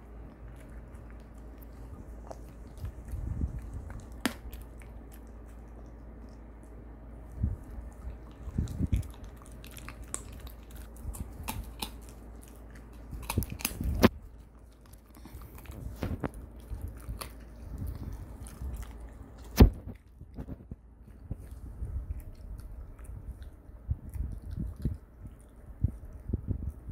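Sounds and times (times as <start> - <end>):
dog chewing crunchy treat: 0.0 - 26.9.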